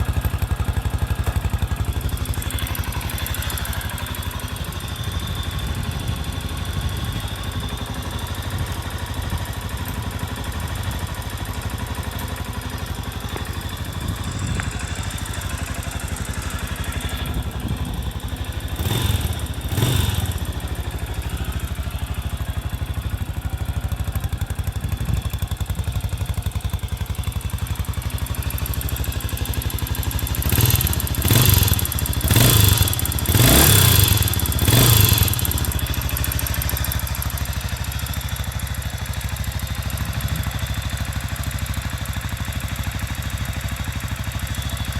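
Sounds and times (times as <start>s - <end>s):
motorcycle engine idling and blipping: 0.0s - 44.9s.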